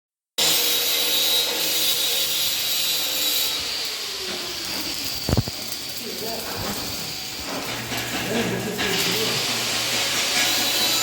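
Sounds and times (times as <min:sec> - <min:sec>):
arc welding hissing crackle: 0:00.4 - 0:11.0.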